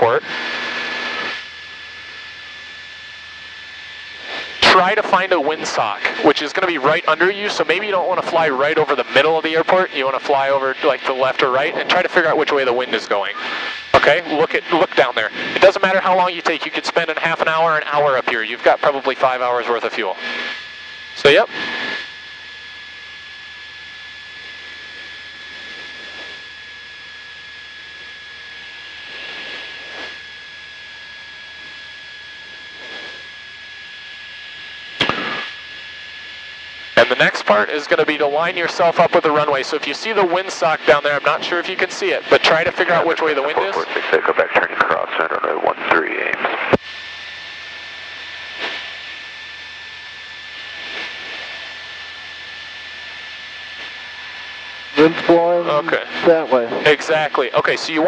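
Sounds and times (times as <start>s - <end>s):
high whine: 0.0s - 58.0s
small plane engine drone: 0.0s - 58.0s.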